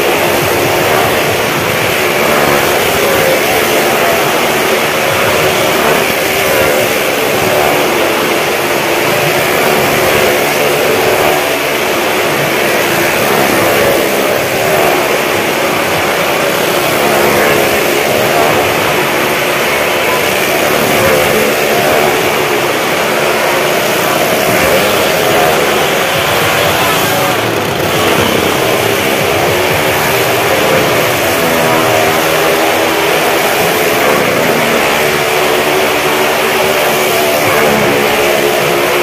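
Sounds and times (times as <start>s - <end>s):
motorcycle engines droning: 0.0s - 39.0s.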